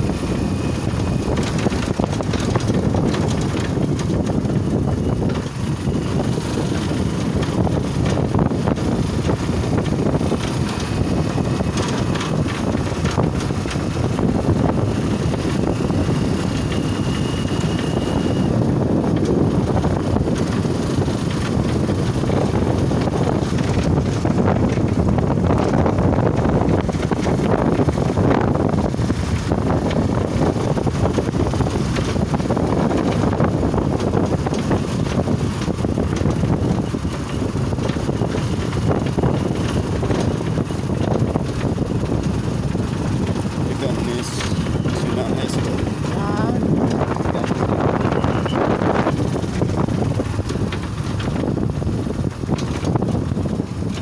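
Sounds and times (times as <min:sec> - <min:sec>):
motorcycle engine running: 0:00.0 - 0:54.0
tyre noise on road: 0:00.0 - 0:54.0
wind rushing over microphone: 0:00.0 - 0:54.0.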